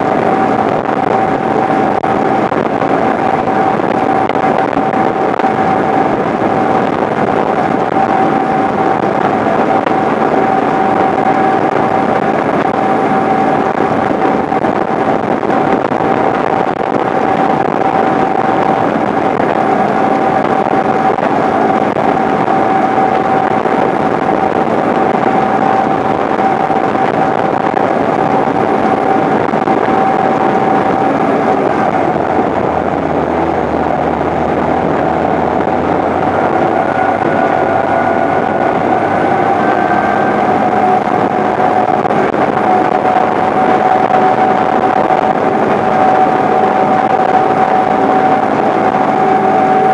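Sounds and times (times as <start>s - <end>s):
constant whine: 0.0s - 49.9s
tractor diesel engine under load: 0.0s - 49.9s.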